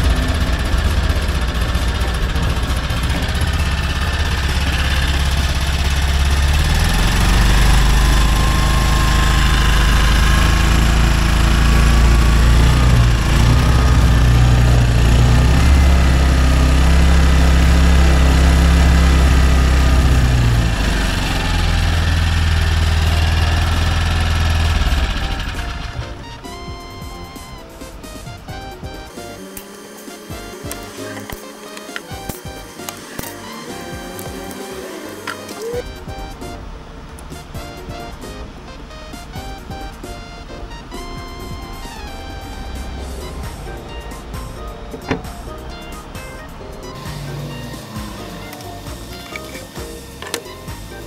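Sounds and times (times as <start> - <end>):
generator engine running: 0.0 - 51.0.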